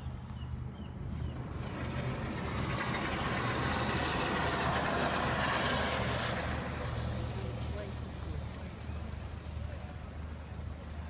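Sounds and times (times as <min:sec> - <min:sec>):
motorboat engine hum: 0:00.0 - 0:11.0.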